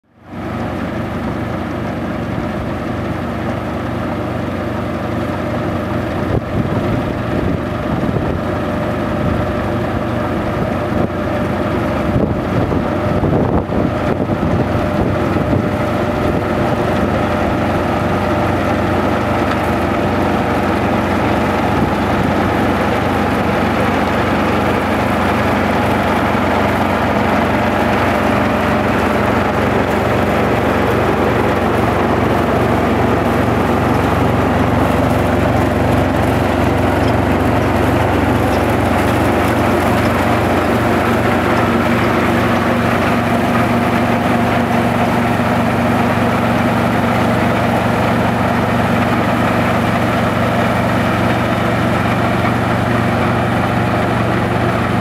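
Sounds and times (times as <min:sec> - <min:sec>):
combine harvester engine drone: 0:00.0 - 0:55.0
cutting and threshing machinery: 0:02.3 - 0:55.0.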